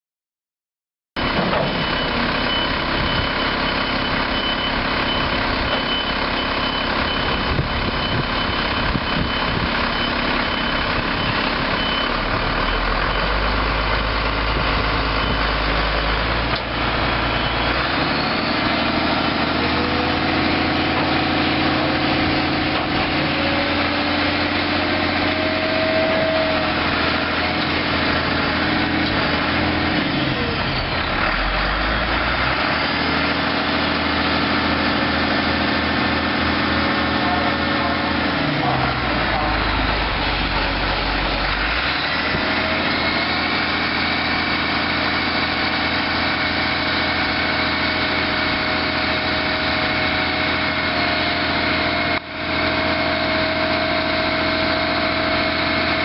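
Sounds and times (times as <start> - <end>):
diesel engine running: 1.2 - 56.0.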